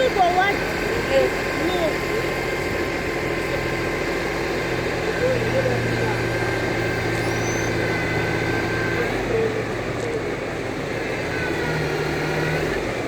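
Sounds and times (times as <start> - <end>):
road noise: 0.0 - 13.0
vehicles passing: 0.0 - 13.0.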